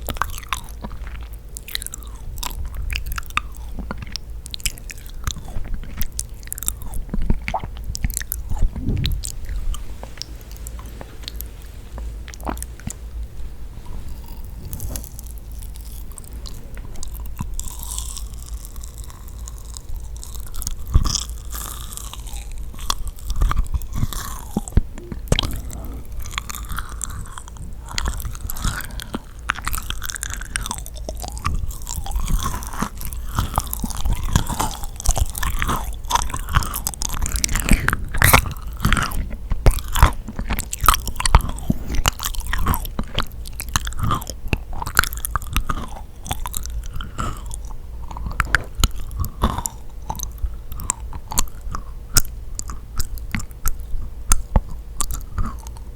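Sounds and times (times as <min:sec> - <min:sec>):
sticky chewing and mouth smacks: 0:00.0 - 0:55.9.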